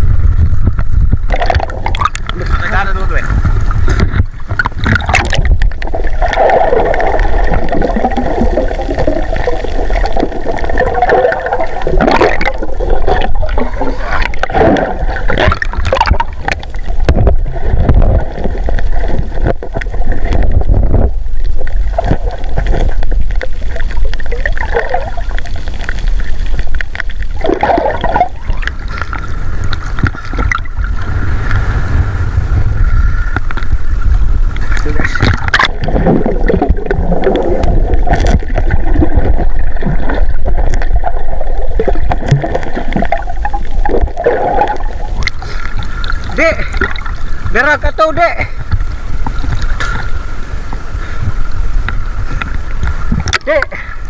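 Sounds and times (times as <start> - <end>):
muffled underwater rumble: 0.0 - 54.0
sea water sloshing and splashing: 0.7 - 54.0.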